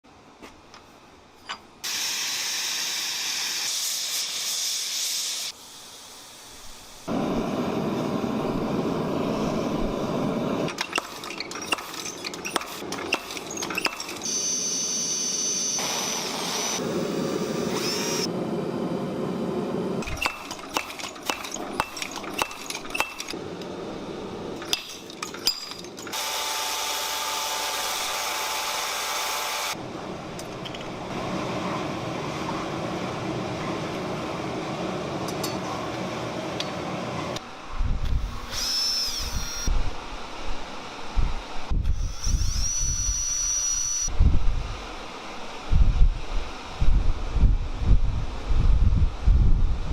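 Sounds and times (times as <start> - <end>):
steady tool noise: 1.5 - 33.1, 35.2 - 44.2.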